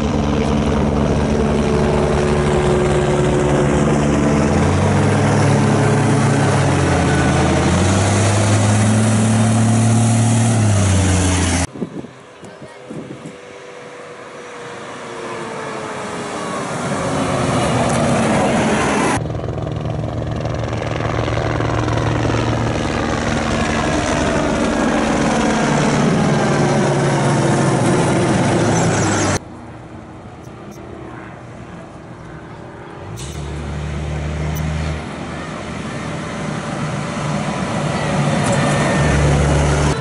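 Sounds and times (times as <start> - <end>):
trucks passing at speed: 0.0 - 19.2, 24.2 - 40.0.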